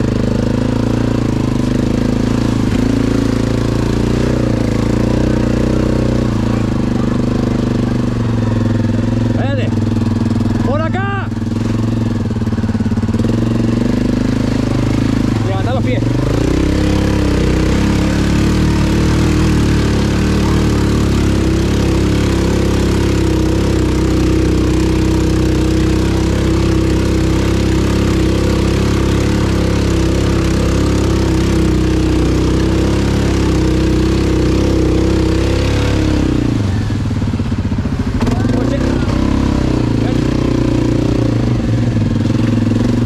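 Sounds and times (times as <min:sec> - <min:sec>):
atv engine running: 0:00.0 - 0:43.0.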